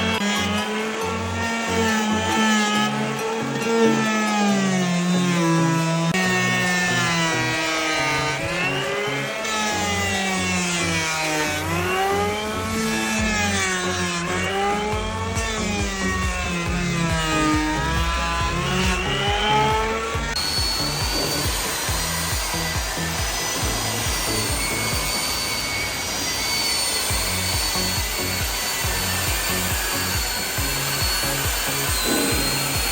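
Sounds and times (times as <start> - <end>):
background music with steady beat: 0.0 - 32.9
motor revving up: 0.0 - 32.9
woodworking machine whining: 0.0 - 32.9.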